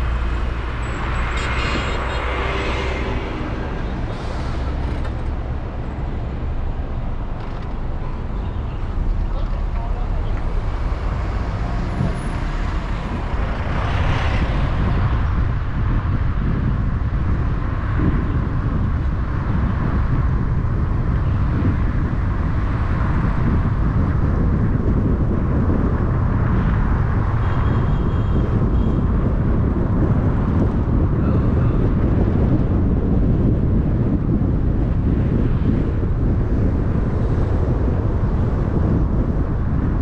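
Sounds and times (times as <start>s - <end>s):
road and traffic rumble: 0.0s - 40.0s.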